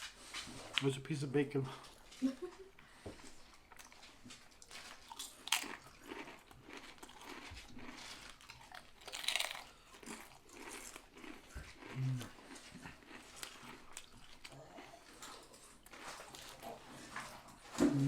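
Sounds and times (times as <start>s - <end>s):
chewing and biting sandwich: 3.2s - 17.8s.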